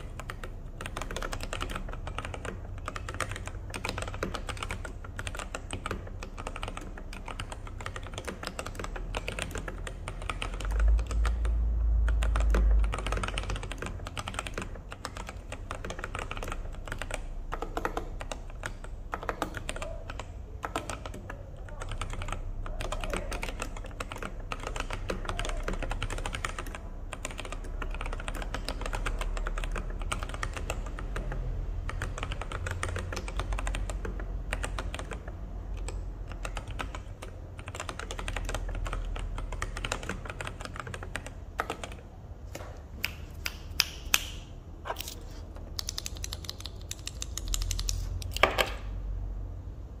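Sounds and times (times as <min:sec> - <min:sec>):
mechanical keyboard typing: 0:00.0 - 0:42.2, 0:43.0 - 0:48.9.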